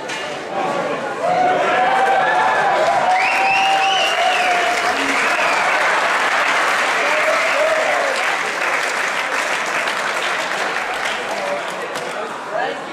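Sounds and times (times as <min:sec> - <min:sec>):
audience applauding: 0:01.9 - 0:12.3.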